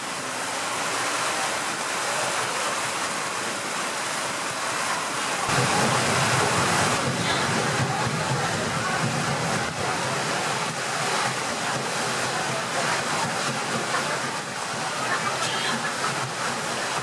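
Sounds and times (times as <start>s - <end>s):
water rushing along a boat: 0.0s - 17.0s.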